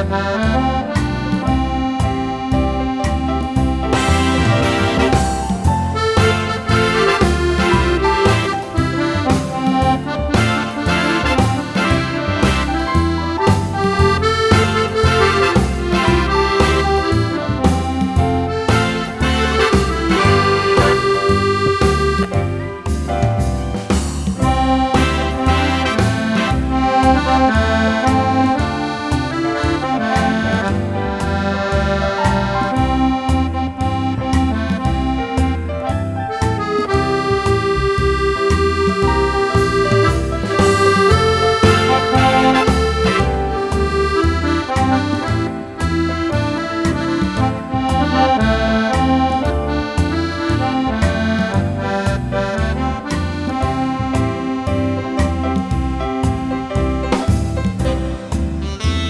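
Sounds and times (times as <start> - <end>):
accordion playing a melody: 0.0 - 59.0.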